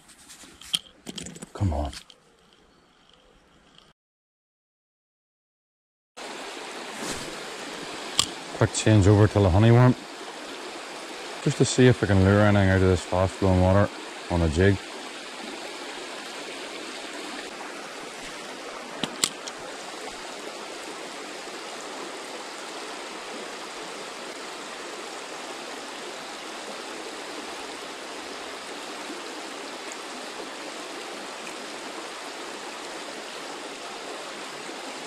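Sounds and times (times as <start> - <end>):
river water flowing: 6.2 - 35.0.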